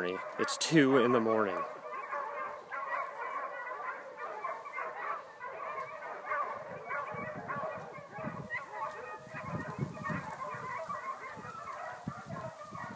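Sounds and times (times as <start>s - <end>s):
dogs barking and yelping: 0.0s - 12.9s.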